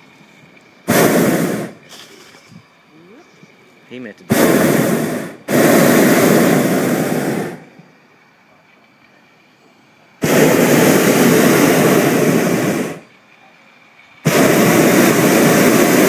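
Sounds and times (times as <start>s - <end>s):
propane burner blasts: 0.0s - 16.0s.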